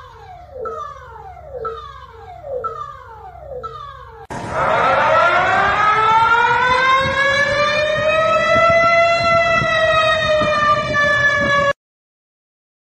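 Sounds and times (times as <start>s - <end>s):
warning siren winding up: 0.0s - 11.8s.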